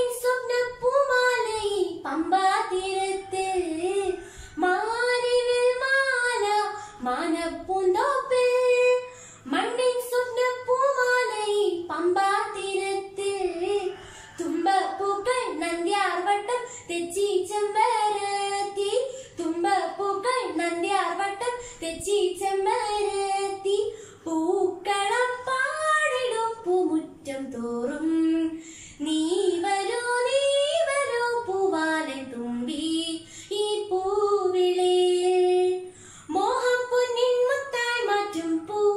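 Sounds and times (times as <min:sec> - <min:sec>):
girl singing unaccompanied: 0:00.0 - 0:38.9.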